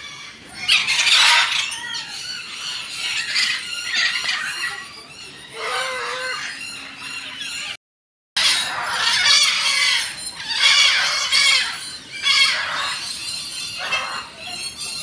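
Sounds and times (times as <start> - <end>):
parrots screeching: 0.0 - 7.7, 8.4 - 15.0.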